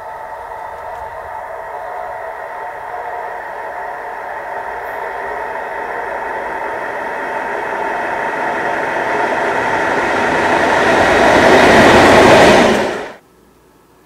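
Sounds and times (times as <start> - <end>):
diesel locomotive passing: 0.0 - 13.2.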